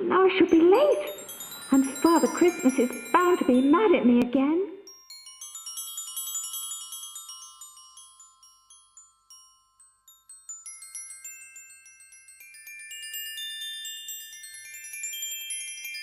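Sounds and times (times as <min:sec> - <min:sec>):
high tinkling chimes: 0:00.4 - 0:04.2, 0:04.8 - 0:16.0.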